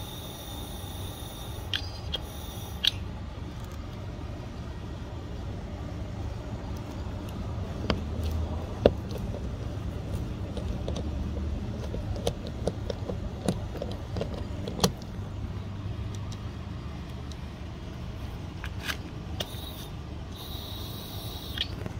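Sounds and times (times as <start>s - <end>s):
steady low rumble: 1.6s - 20.4s.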